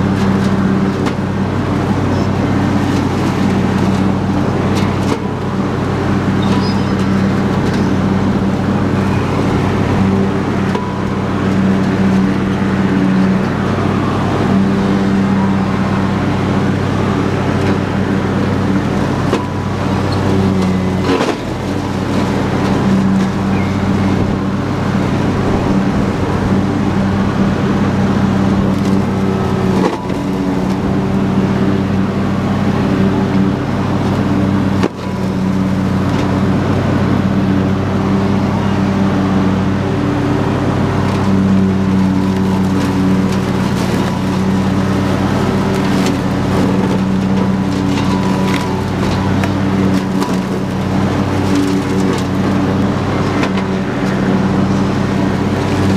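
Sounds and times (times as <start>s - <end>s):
lawn tractor engine running: 0.0s - 55.9s
mower deck cutting grass: 0.0s - 55.9s.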